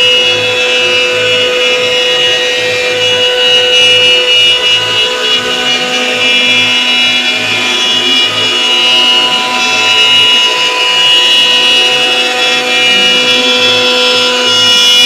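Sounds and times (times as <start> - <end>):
router spindle whine cutting wood: 0.0 - 15.0.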